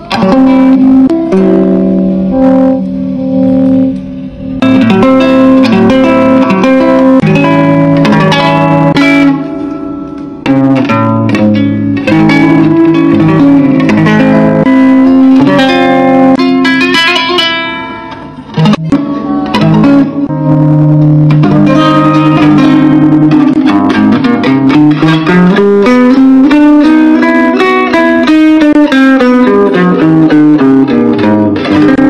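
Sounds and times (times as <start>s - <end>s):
guitar through amplifier: 0.0s - 32.0s.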